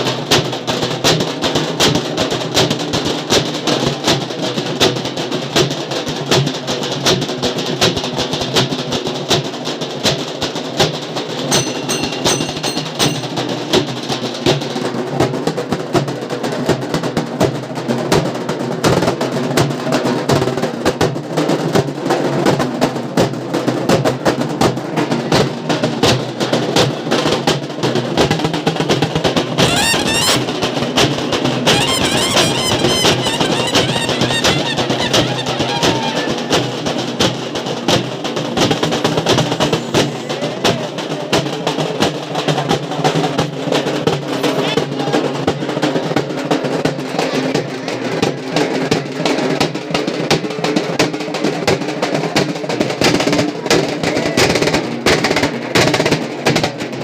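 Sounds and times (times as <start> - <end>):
frame drums beaten with sticks: 0.0 - 57.0.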